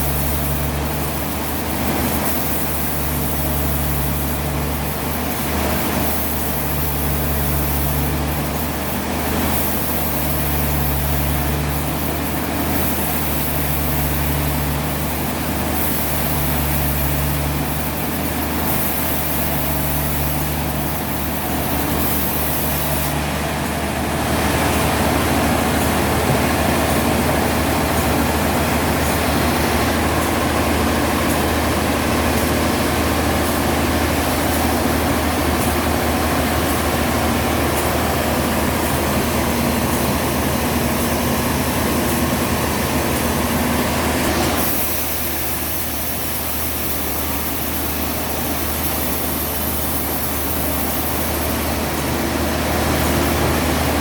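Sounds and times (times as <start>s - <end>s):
heavy sawmill machinery running: 0.0s - 54.0s
high hiss: 0.0s - 54.0s.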